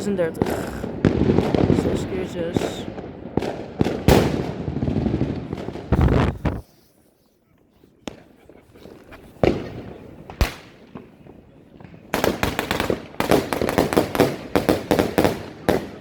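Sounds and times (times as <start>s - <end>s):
firework bangs: 0.0s - 6.8s, 8.1s - 16.0s
firework crackling pops: 0.0s - 6.9s, 8.1s - 16.0s.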